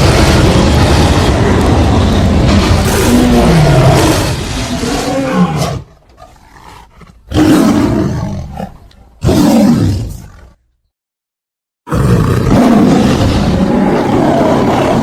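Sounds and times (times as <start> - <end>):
tiger roaring: 1.2 - 10.6, 11.9 - 15.0.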